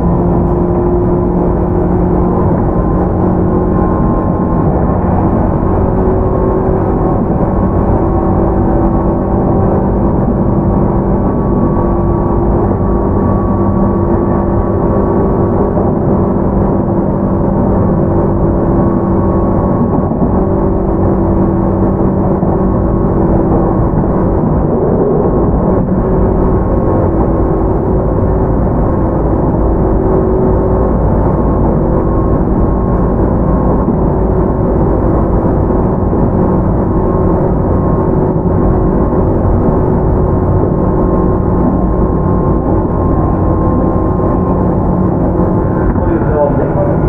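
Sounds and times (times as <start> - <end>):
electric train motor hum: 0.0 - 47.0
train wheels rumbling on rails: 0.0 - 47.0.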